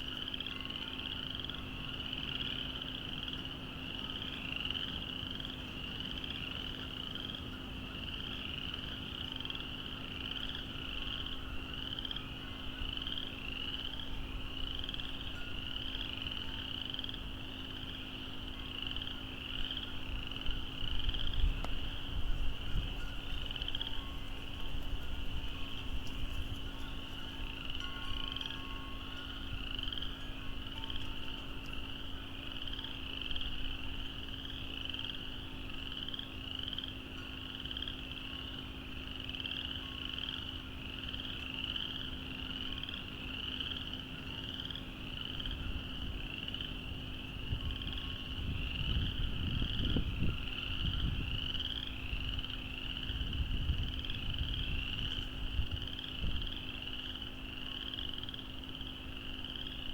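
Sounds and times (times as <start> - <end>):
frogs calling: 0.0 - 59.9.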